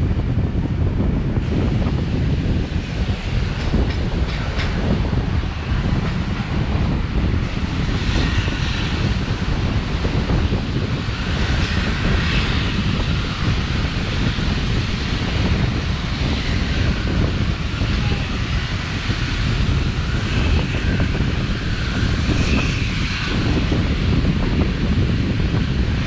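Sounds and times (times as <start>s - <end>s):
train rumbling: 0.0s - 26.0s
wind noise: 0.0s - 26.0s.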